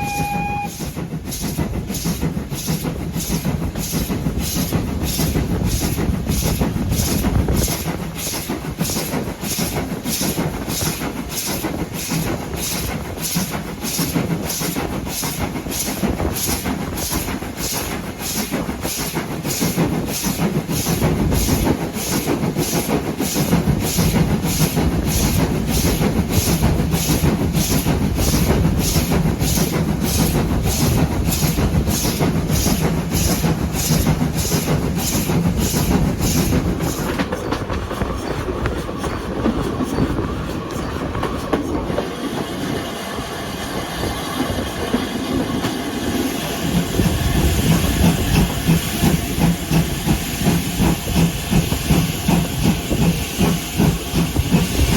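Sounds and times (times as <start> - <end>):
train rumbling with rhythmic beat: 0.0 - 54.9.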